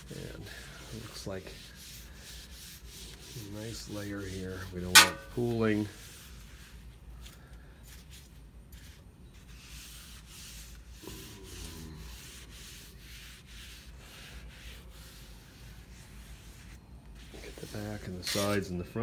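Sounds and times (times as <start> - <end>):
paper towel rubbing on hot griddle: 0.0 - 19.0.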